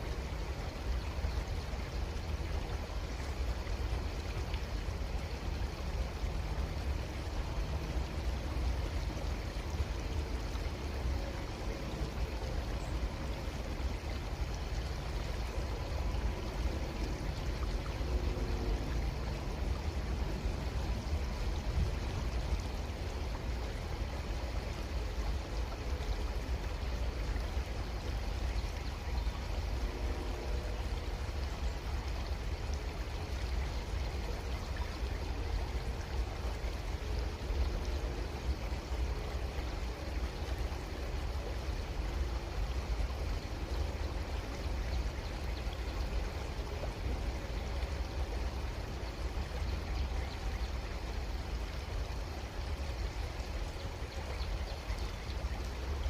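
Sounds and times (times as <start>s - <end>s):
creek flowing: 0.0s - 56.0s.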